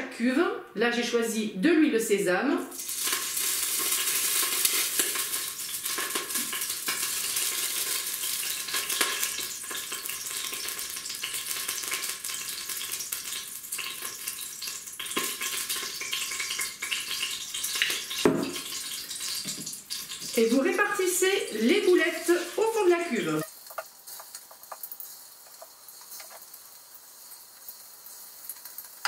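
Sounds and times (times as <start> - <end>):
hot oil sizzling and spattering: 2.7 - 29.0.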